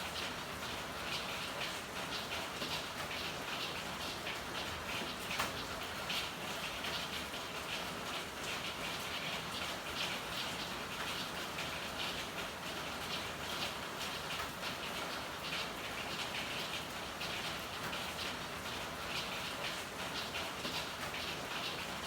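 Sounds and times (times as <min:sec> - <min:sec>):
rain on hard surfaces: 0:00.0 - 0:22.0.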